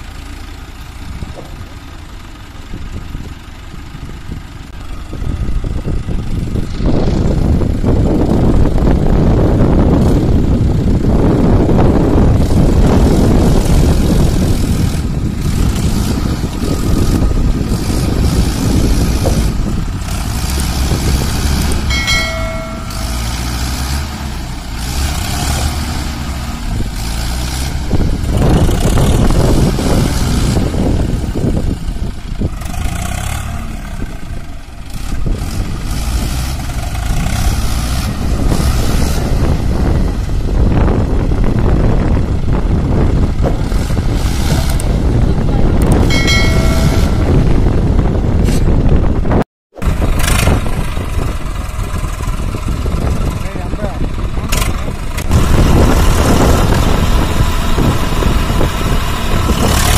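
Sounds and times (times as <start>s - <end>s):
diesel tractor engines revving: 0.0s - 59.9s.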